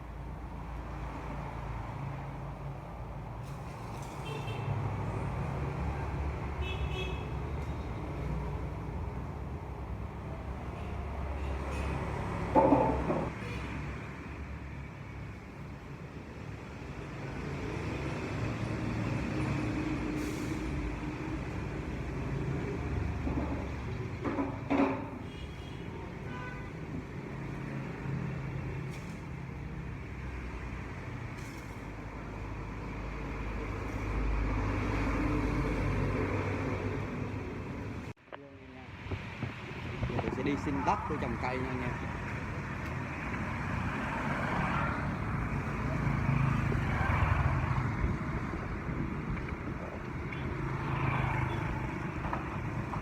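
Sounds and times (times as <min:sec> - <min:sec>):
road noise: 0:00.0 - 0:53.0.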